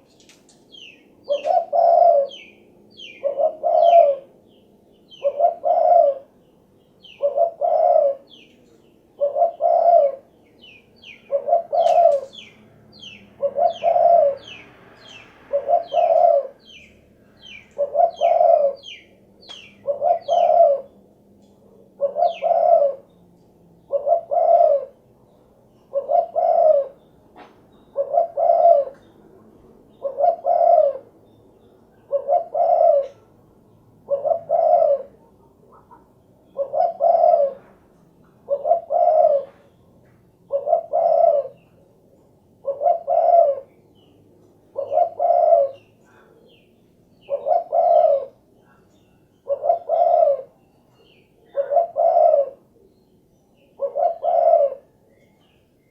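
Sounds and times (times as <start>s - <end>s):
dove cooing song: 0.0s - 55.6s.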